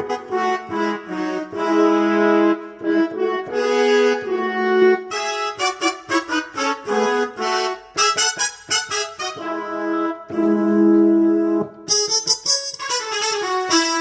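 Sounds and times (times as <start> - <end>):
keyboard brass notes: 0.0 - 14.0.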